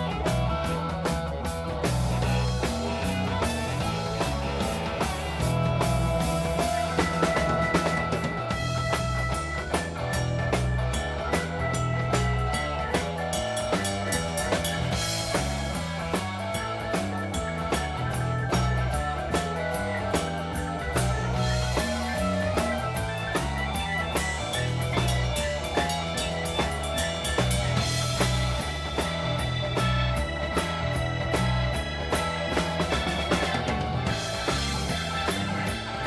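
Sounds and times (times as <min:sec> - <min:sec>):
bass line: 0:00.0 - 0:36.0
drum kit beat: 0:00.0 - 0:36.0
electric guitar: 0:00.0 - 0:36.0.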